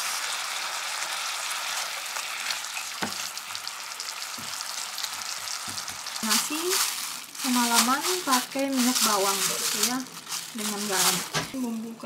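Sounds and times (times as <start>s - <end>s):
spice paste sizzling in oil: 0.0s - 11.4s.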